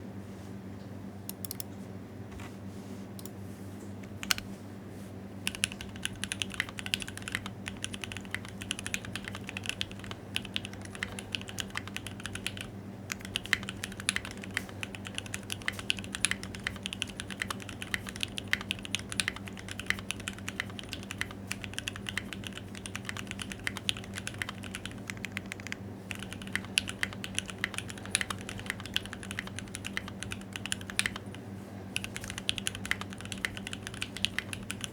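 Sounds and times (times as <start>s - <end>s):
low steady hum: 0.0s - 34.9s
typing on mechanical keyboard: 5.5s - 31.4s, 32.0s - 34.9s.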